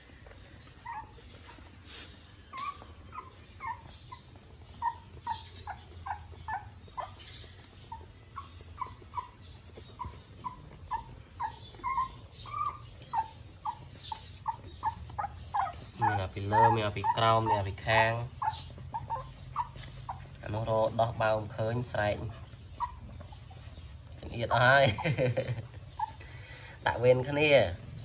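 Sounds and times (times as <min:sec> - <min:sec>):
puppies squeaking and whimpering: 0:00.0 - 0:28.0.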